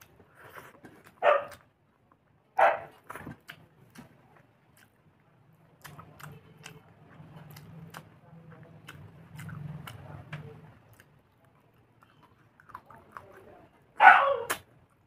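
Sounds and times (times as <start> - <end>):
person chewing food: 0.0 - 13.8, 14.4 - 15.0.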